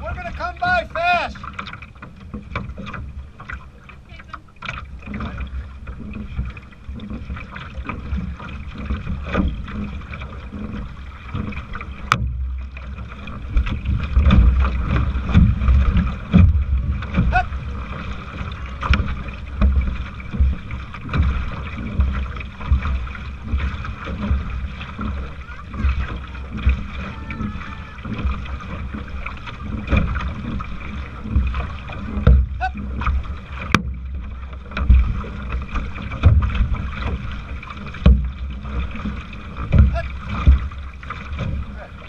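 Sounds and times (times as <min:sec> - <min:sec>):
water splashing against metal hull: 0:00.0 - 0:42.0.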